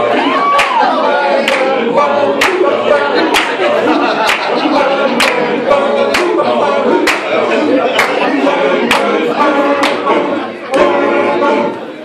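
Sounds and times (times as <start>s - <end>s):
male choir singing a cappella: 0.0s - 12.0s.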